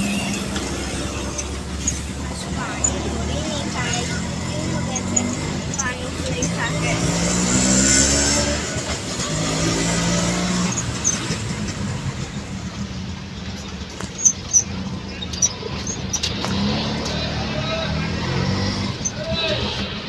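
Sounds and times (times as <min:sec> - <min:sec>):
auto-rickshaw engine drone: 0:00.0 - 0:20.0
road and wind noise: 0:00.0 - 0:20.0.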